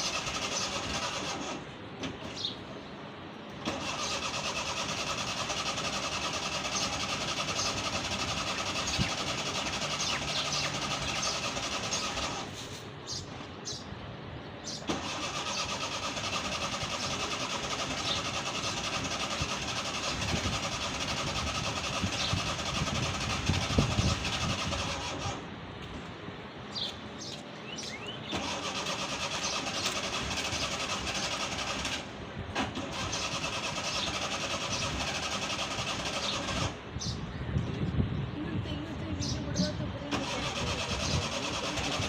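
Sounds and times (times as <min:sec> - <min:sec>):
car engine cranking on starter: 0:00.0 - 0:02.6, 0:03.6 - 0:13.2, 0:14.7 - 0:25.5, 0:28.0 - 0:36.8, 0:40.1 - 0:42.0.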